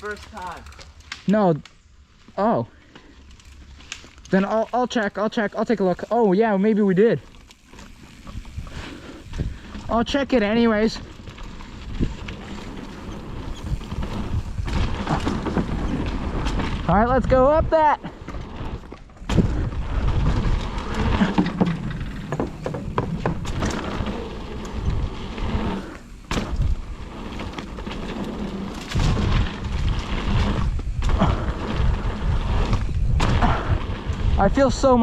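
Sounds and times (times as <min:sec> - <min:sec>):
bike knocking and rattling: 0:00.0 - 0:35.0
tyre and wind rumble: 0:00.0 - 0:35.0.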